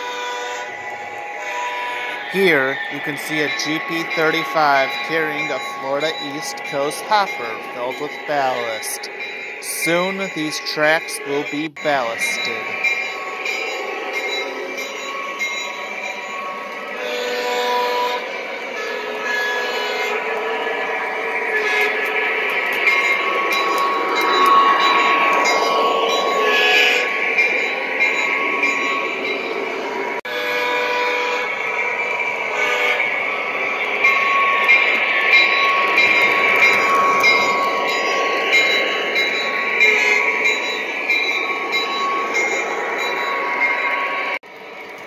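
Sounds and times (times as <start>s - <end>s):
model train humming: 0.0s - 45.0s.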